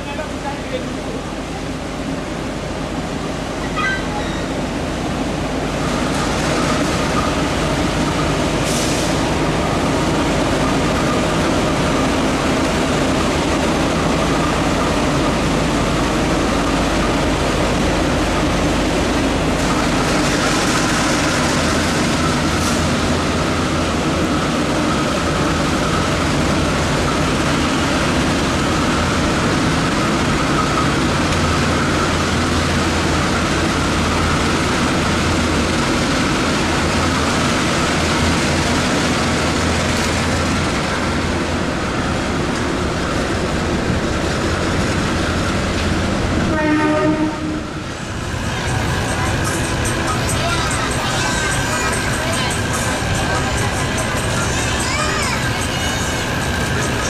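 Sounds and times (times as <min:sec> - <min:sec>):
passenger train rail noise: 0:00.0 - 0:57.0.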